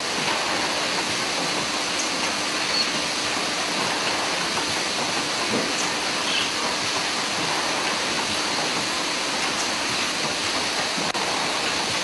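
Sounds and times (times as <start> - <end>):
machinery hissing and whirring: 0.0 - 12.0.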